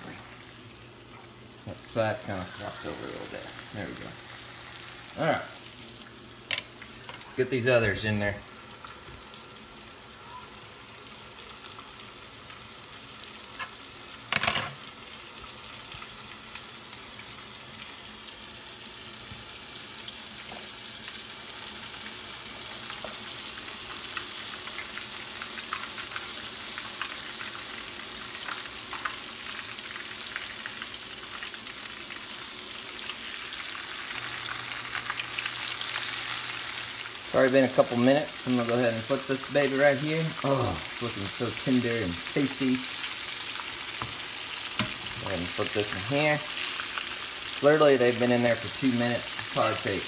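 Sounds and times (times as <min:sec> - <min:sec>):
fish frying in hot oil: 0:00.0 - 0:50.0.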